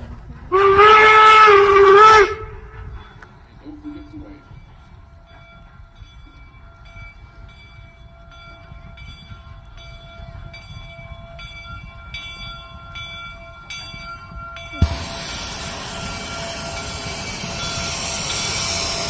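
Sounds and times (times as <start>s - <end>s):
steam locomotive approaching: 0.0s - 19.0s.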